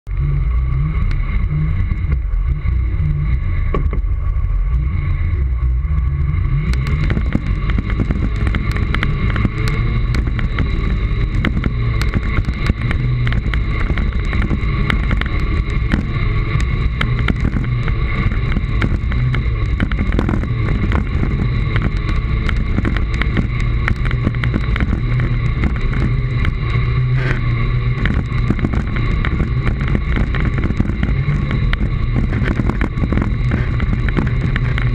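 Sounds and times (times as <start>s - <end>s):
steady high whine: 0.0s - 34.9s
wheels rumbling over gravel: 0.0s - 34.9s.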